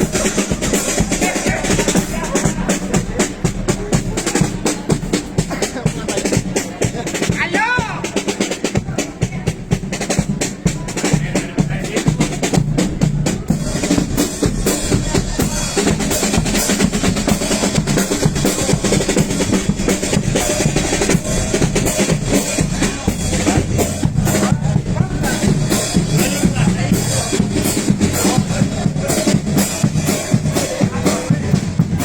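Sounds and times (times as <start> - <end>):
bass drum: 0.0 - 32.0
snare drum rolls: 0.0 - 32.0.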